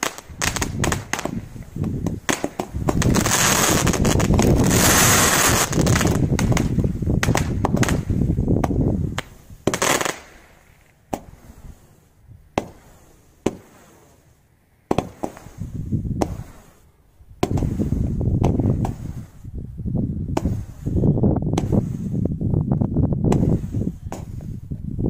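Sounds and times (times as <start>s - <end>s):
sharp firework pops: 0.0s - 11.7s, 12.5s - 14.1s, 14.9s - 16.8s, 17.4s - 19.3s, 20.3s - 22.2s, 23.2s - 24.8s
firework hiss burst: 0.0s - 19.6s, 20.3s - 22.3s, 23.2s - 24.7s.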